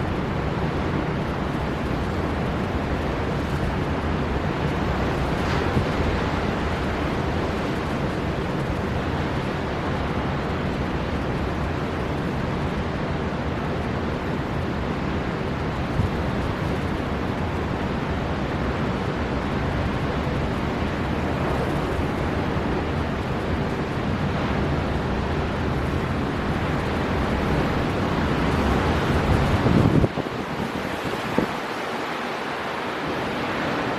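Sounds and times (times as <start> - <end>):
heavy sea surf: 0.0 - 33.9
storm wind blowing: 0.0 - 33.9.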